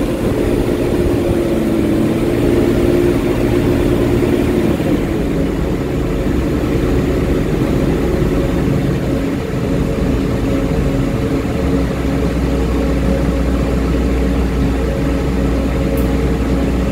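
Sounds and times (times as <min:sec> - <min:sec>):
bus engine drone: 0:00.0 - 0:16.9
deeper hum: 0:00.0 - 0:16.9.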